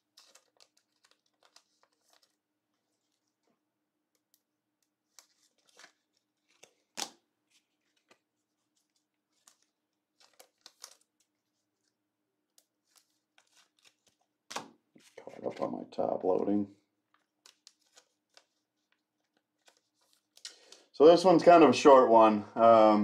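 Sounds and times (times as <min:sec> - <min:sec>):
trading cards rustling and clicking: 0:00.0 - 0:03.4, 0:04.1 - 0:20.9.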